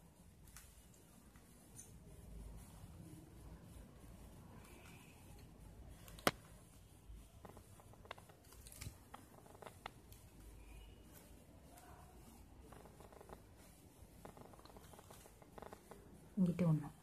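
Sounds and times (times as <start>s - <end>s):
plastic wire rustling: 0.0s - 17.0s.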